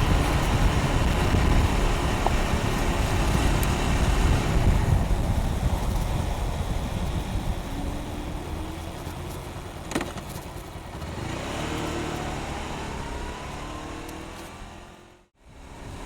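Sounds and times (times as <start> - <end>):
wind rush on microphone: 0.0 - 13.6, 15.4 - 16.0
motorcycle engine running: 0.0 - 16.0.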